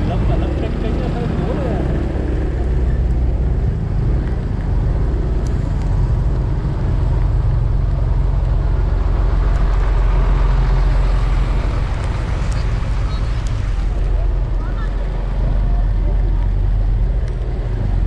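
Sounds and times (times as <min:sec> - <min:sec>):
road and wind noise: 0:00.0 - 0:18.0
vehicle engine rumble: 0:00.0 - 0:18.0.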